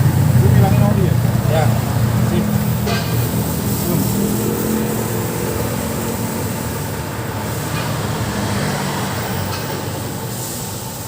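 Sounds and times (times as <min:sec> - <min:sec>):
machine rumble with hiss: 0:00.0 - 0:11.0.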